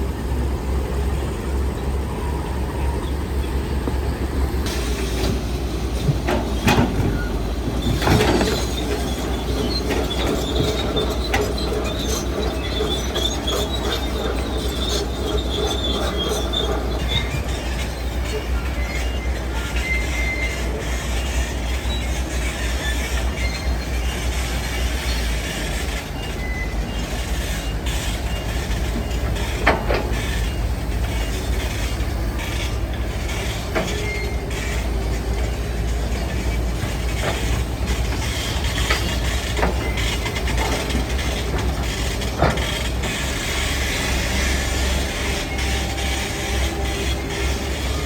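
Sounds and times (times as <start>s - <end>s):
diesel machinery engine rumble: 0.0s - 48.0s.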